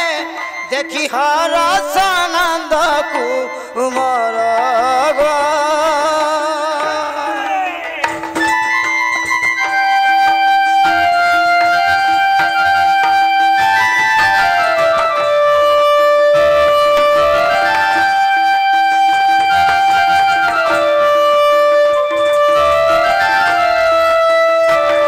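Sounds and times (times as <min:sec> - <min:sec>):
melody instrument long notes: 0:00.0 - 0:25.0.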